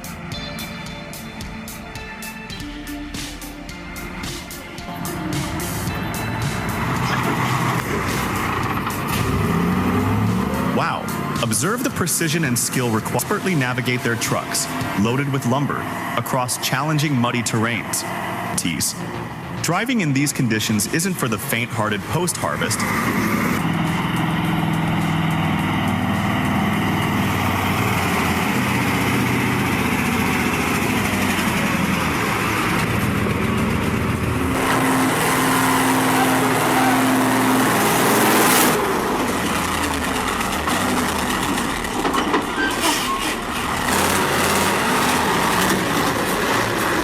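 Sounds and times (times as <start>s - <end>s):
heavy truck engines labouring: 0.0s - 47.0s.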